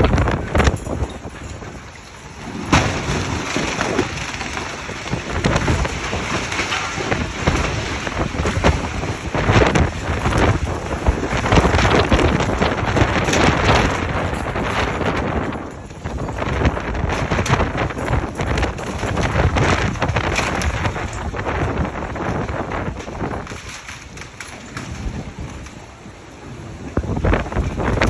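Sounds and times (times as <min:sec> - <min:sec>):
sharp crackles: 0:00.0 - 0:28.0
wind gusting against microphone: 0:00.0 - 0:28.0.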